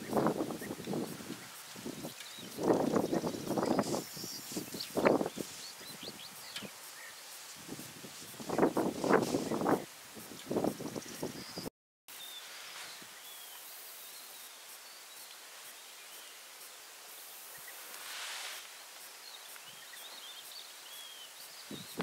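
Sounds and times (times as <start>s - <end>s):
songbirds chirping: 0.0s - 22.0s
steady hiss: 0.0s - 22.0s.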